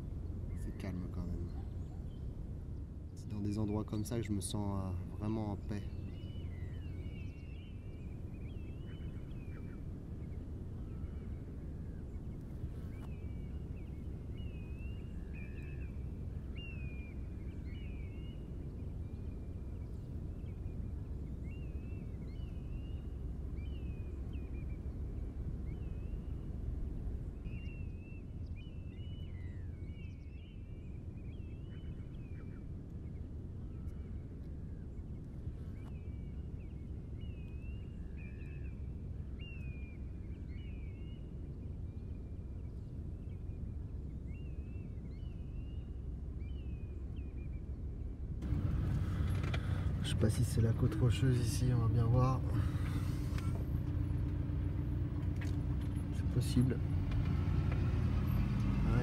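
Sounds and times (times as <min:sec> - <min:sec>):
small birds chirping: 0:00.0 - 0:47.8, 0:48.4 - 0:59.0
low background rumble: 0:00.0 - 0:59.0.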